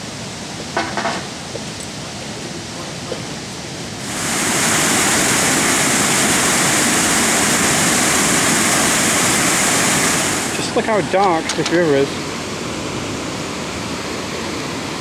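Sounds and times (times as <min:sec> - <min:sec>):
waterfall rushing: 0:01.4 - 0:15.0.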